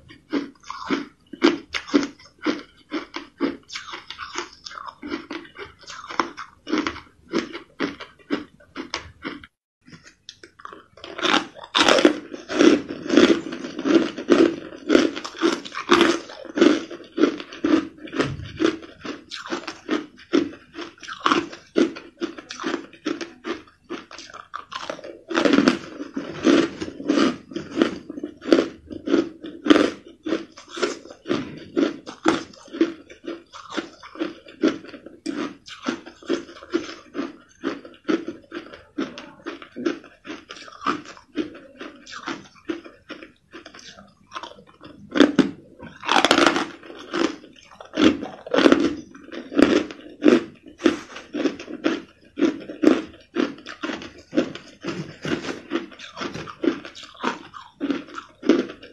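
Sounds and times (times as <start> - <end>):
crushed ice being chewed: 0.0 - 58.9.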